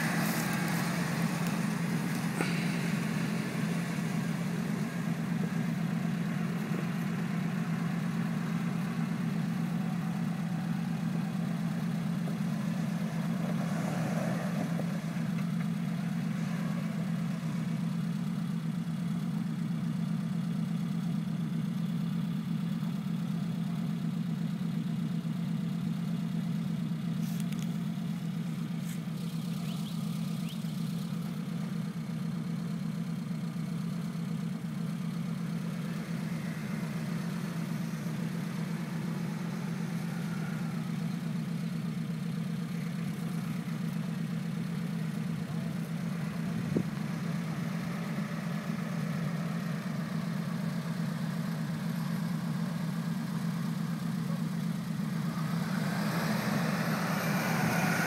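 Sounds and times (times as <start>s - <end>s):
car engine running near idle: 0.0s - 58.0s.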